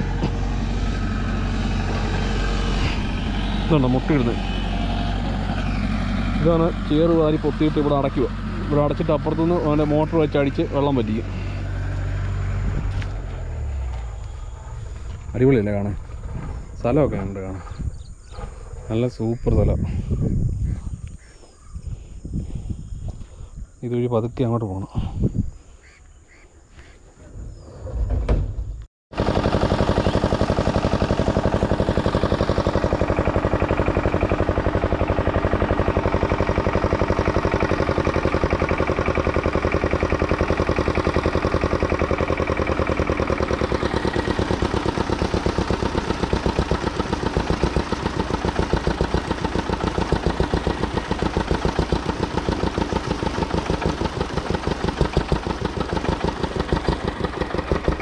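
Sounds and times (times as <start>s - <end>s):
engine running steadily: 0.0s - 23.6s, 28.6s - 58.0s.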